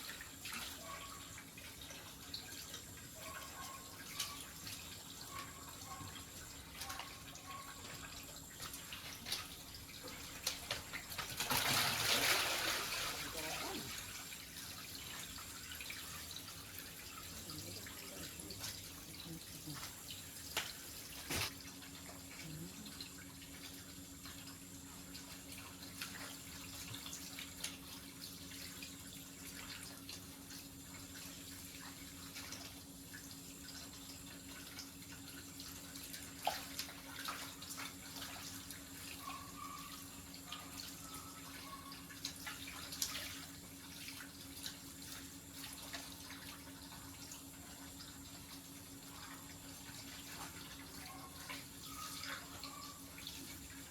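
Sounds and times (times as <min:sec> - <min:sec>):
faint running water: 0:00.0 - 0:53.9.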